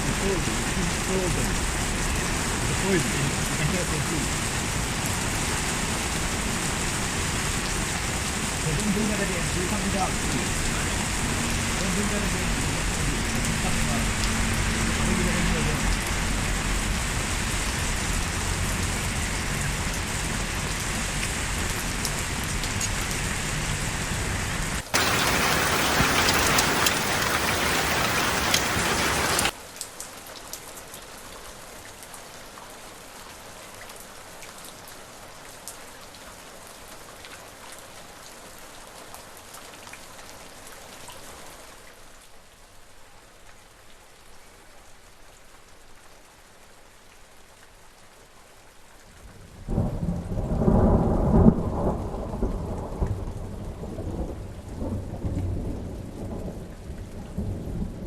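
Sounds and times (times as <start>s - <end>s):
scattered raindrops: 0.0s - 42.0s, 44.9s - 58.0s
rain falling: 0.0s - 58.0s.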